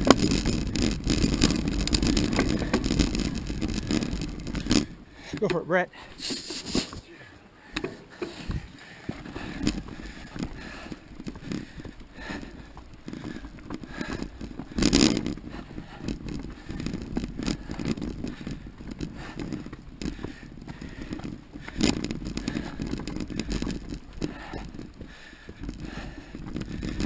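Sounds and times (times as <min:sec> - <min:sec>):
bike rattling and knocking: 0:00.0 - 0:05.8, 0:07.0 - 0:27.0
bike hard jolts: 0:00.0 - 0:27.0
bike tyres rolling over dirt: 0:00.0 - 0:27.0.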